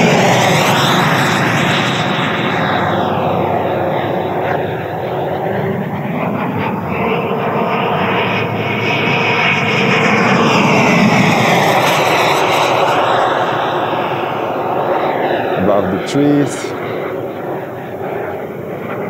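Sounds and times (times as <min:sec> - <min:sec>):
electric ducted fan jet whine: 0:00.0 - 0:19.0.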